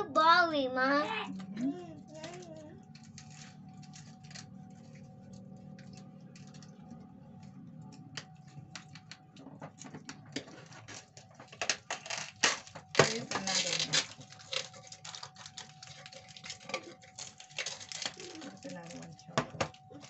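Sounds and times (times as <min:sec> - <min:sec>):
plastic wrappers crinkling: 0:01.3 - 0:20.0.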